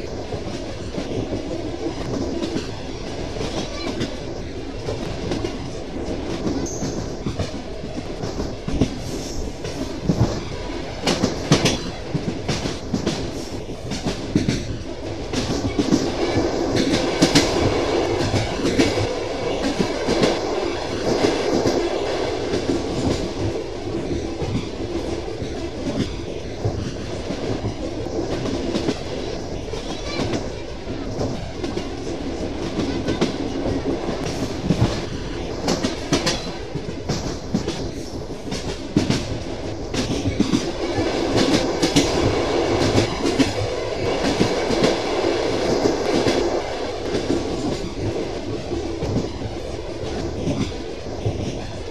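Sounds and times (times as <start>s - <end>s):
train running rumble: 0.0s - 51.9s.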